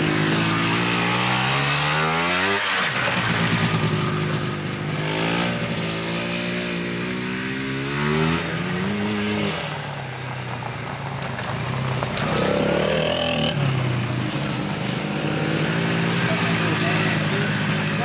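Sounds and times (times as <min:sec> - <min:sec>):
quad engine revving: 0:00.0 - 0:09.7, 0:12.1 - 0:18.0.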